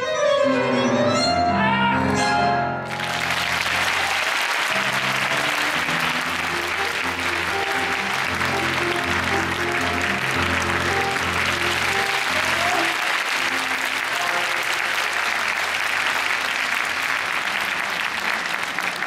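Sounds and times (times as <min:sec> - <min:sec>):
tango ensemble with bass and piano: 0:00.0 - 0:04.1, 0:04.7 - 0:16.2
audience applauding: 0:02.8 - 0:19.0.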